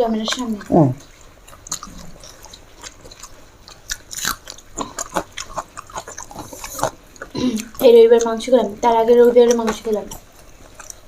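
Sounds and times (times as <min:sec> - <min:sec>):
person chewing: 0:00.0 - 0:11.0
wet mouth clicks and smacks: 0:00.3 - 0:08.3, 0:09.4 - 0:11.0.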